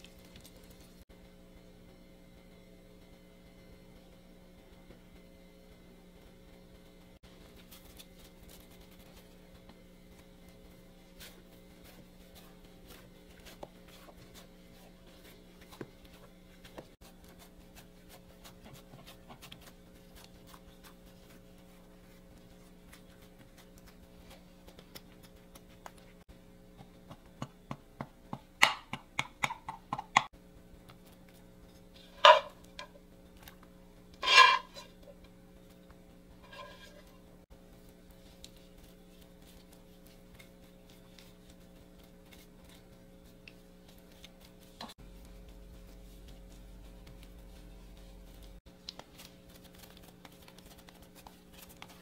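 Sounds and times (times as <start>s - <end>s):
faint hum: 0.0s - 29.2s, 29.9s - 52.0s.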